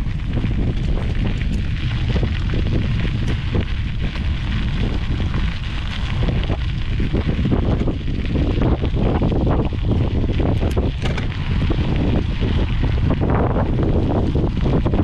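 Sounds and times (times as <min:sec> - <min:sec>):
runner's footsteps: 0:00.0 - 0:15.0
wind buffeting microphone: 0:00.0 - 0:15.0.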